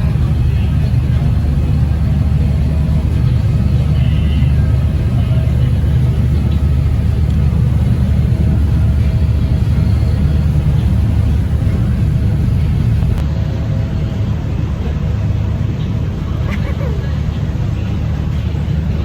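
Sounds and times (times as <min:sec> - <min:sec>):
ship engines rumbling: 0:00.0 - 0:19.0.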